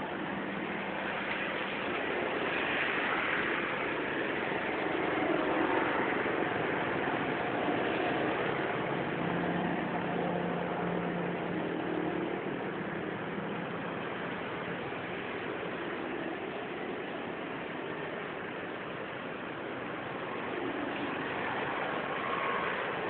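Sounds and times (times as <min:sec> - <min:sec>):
rain hissing on wet street: 0:00.0 - 0:23.0
vehicles passing: 0:00.0 - 0:23.0.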